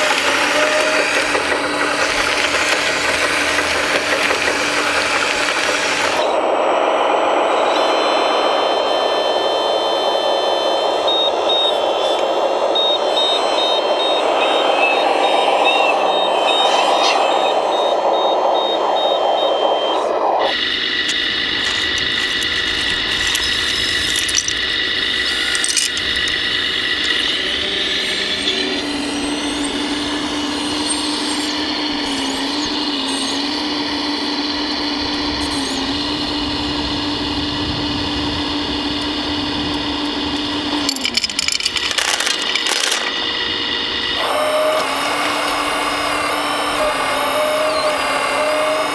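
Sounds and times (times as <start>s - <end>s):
electric motors whining: 0.0s - 48.9s.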